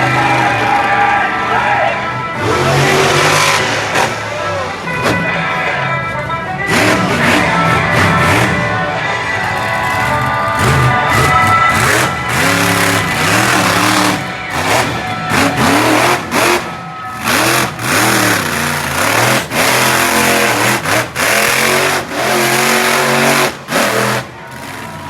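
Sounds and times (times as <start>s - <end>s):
truck engine revving hard: 0.0s - 5.6s, 6.5s - 25.0s.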